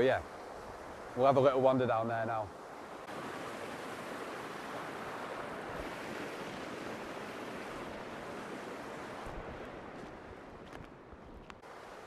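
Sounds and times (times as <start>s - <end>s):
small waterfalls rushing: 0.0s - 10.9s, 11.6s - 12.0s
wind through trees: 0.0s - 12.0s.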